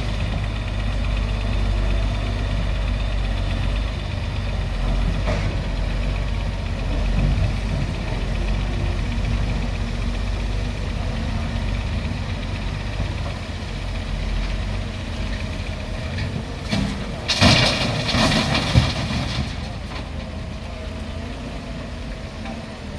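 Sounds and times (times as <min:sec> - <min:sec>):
excavator diesel engine idling: 0:00.0 - 0:22.9.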